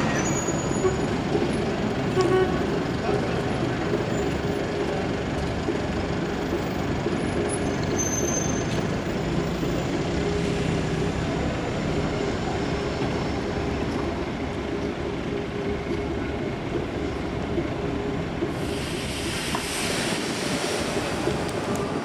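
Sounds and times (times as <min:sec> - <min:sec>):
bus engine running: 0:00.0 - 0:22.0
city traffic noise: 0:00.0 - 0:22.0.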